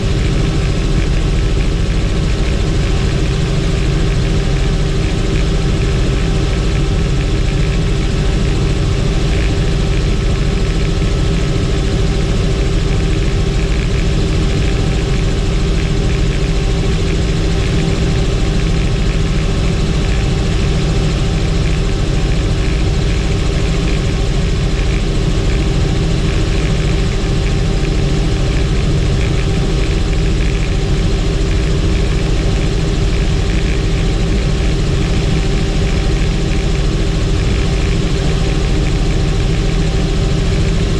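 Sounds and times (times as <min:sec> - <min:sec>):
helicopter cabin drone: 0:00.0 - 0:40.9.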